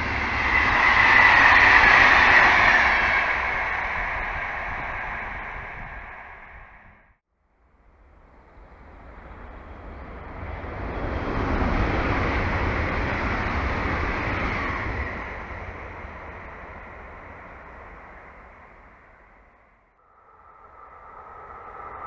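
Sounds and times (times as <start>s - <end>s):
electric train passing on rails: 0.0s - 22.0s.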